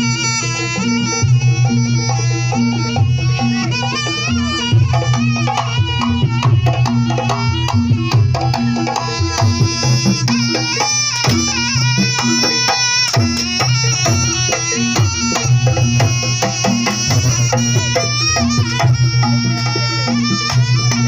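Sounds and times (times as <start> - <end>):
hand drums: 0.0 - 21.0
wavering high melody: 0.0 - 21.0.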